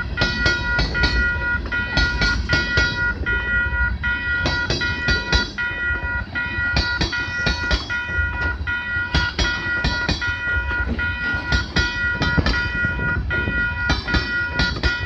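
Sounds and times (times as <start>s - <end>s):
crossing signal bell ringing: 0.0s - 15.0s
freight train rumbling past: 0.0s - 15.0s
wheels clicking over rail joints: 0.0s - 15.0s.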